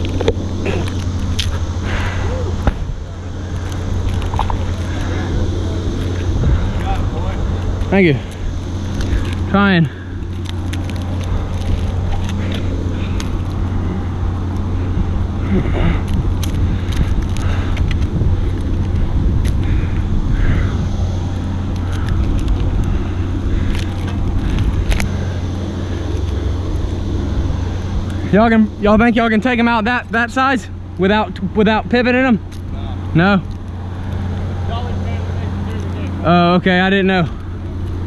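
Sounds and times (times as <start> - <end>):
engine humming: 0.0 - 38.0.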